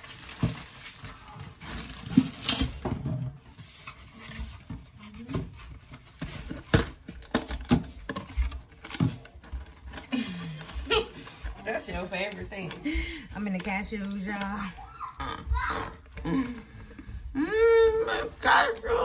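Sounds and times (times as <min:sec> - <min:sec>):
packages rustling: 0:00.0 - 0:17.3.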